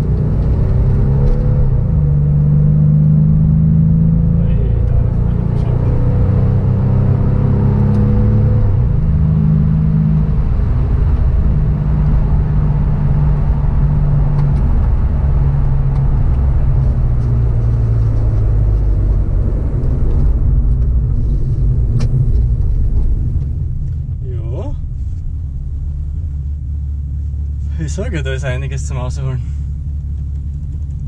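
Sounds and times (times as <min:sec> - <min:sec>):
car engine from inside cabin: 0:00.0 - 0:31.0
tyre and road rumble: 0:00.0 - 0:31.0.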